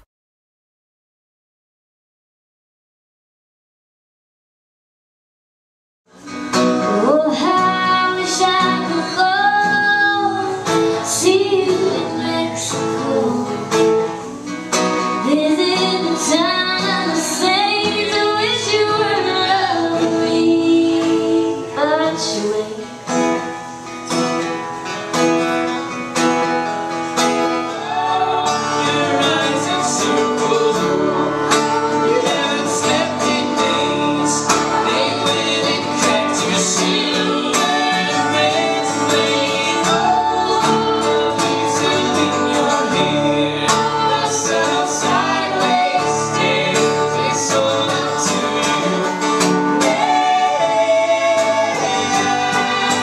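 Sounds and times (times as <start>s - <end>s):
acoustic guitar music: 6.1s - 53.0s
person singing country-folk song: 6.2s - 53.0s.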